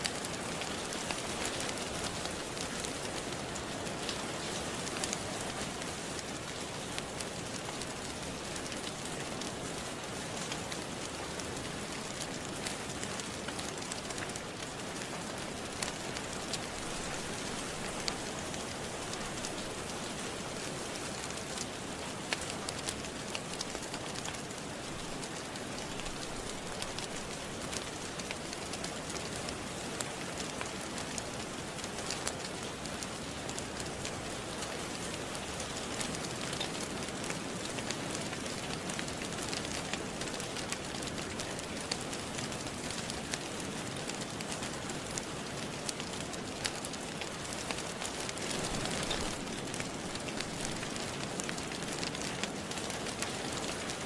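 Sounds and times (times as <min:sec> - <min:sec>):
rain patter: 0:00.0 - 0:54.0
wood fire crackling: 0:00.0 - 0:54.0.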